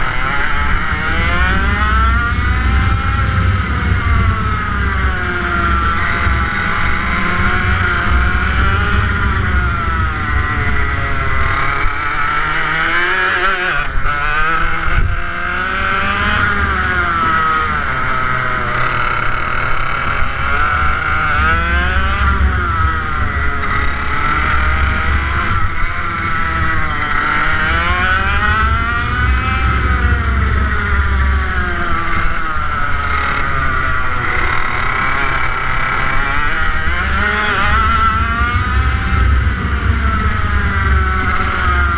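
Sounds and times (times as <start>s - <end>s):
kart engine revving: 0.0s - 41.9s.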